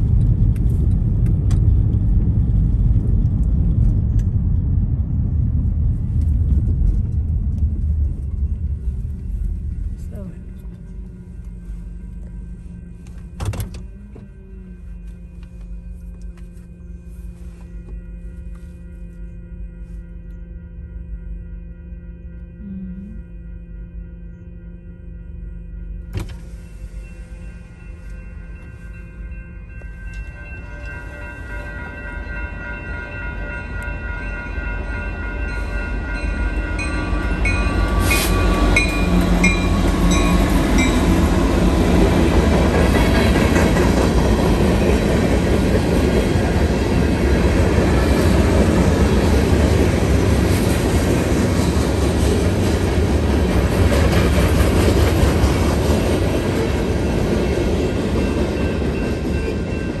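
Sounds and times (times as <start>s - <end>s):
freight train rumbling on rails: 0.0s - 17.9s, 25.3s - 60.0s
crossing bell ringing: 8.1s - 60.0s.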